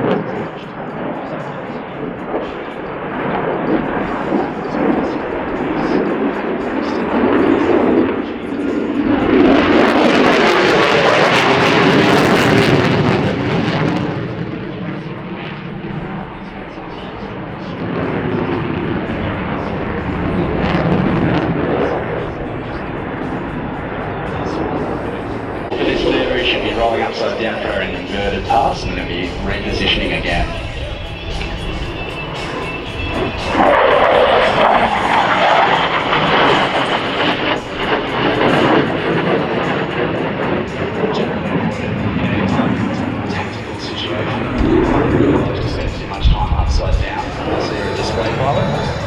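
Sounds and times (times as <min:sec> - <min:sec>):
jet passing with rumbling roar: 0:00.0 - 0:49.0.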